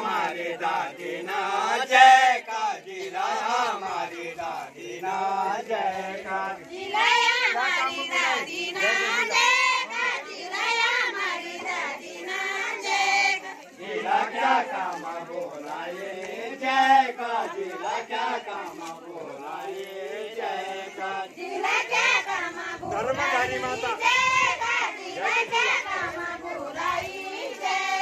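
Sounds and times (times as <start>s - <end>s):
group singing folk song: 0.0s - 28.0s.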